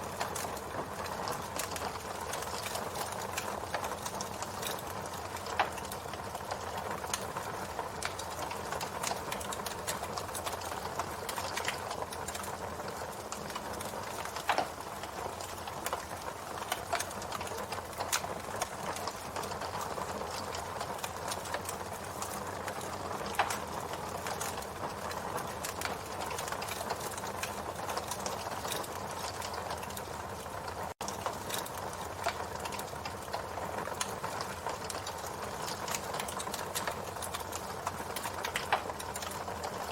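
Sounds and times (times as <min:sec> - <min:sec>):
campfire hissing and crackling: 0:00.0 - 0:39.9
loud fire pops: 0:00.2 - 0:19.9, 0:20.5 - 0:30.0, 0:34.8 - 0:39.8.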